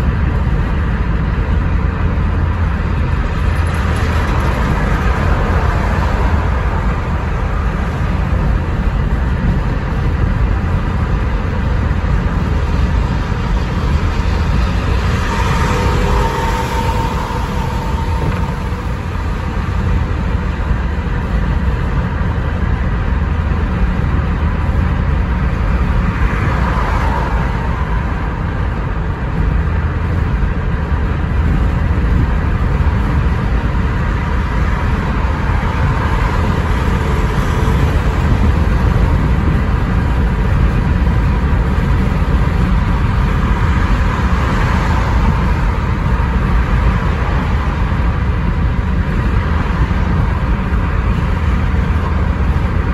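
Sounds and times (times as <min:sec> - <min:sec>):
car road noise rumble: 0:00.0 - 0:52.9.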